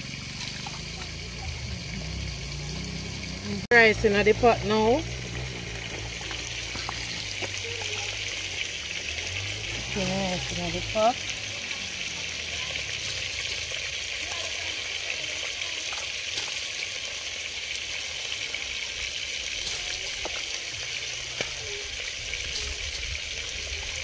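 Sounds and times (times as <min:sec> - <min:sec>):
water splashes and drips: 0:00.0 - 0:24.0.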